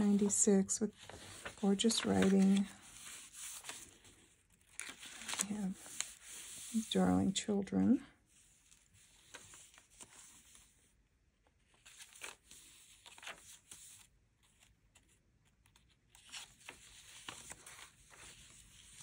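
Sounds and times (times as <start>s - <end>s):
paper pages turning: 0.0s - 6.9s, 8.6s - 10.7s, 11.6s - 19.0s.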